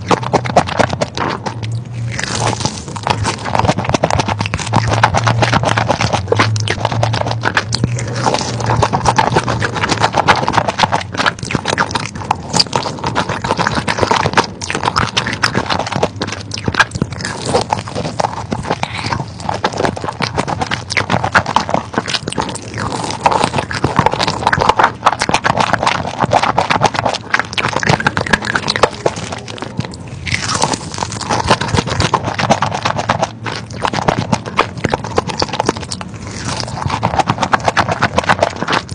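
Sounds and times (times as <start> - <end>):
person crunching chewing chicken: 0.0 - 38.9.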